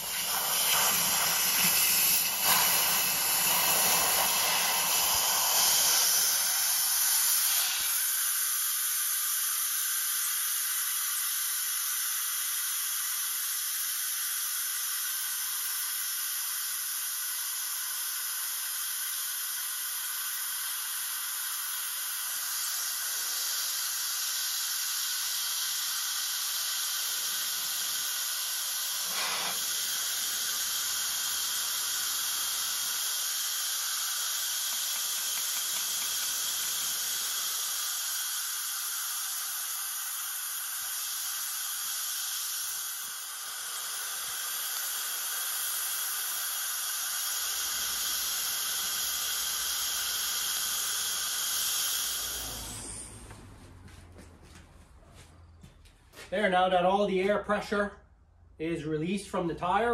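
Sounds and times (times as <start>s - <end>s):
air hissing from tire valve: 0.0s - 53.8s.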